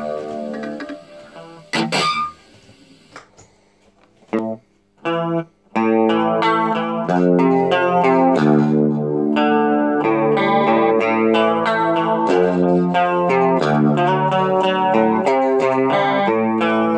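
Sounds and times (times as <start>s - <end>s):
electric guitar chords: 0.0s - 3.2s, 4.3s - 16.9s.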